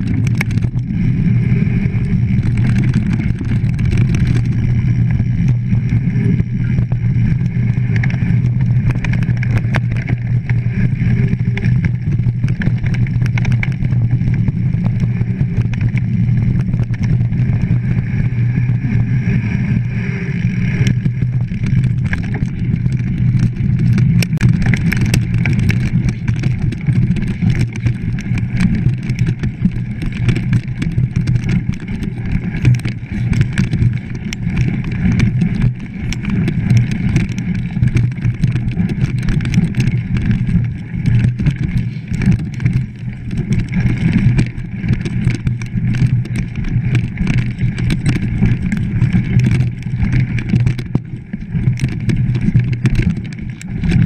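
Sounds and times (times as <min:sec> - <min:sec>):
bike clicks and rattles: 0:00.0 - 0:54.0
tyres rumbling on dirt: 0:00.0 - 0:54.0.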